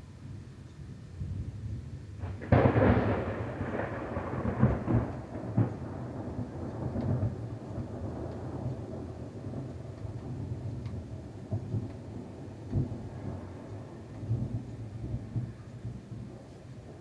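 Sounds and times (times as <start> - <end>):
thunder clap and rumble: 1.2 - 17.0.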